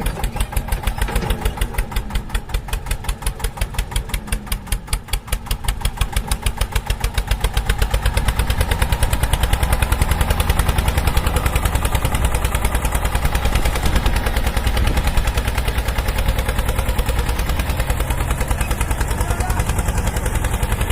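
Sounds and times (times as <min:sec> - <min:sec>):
small tractor engine chugging: 0:00.0 - 0:20.9.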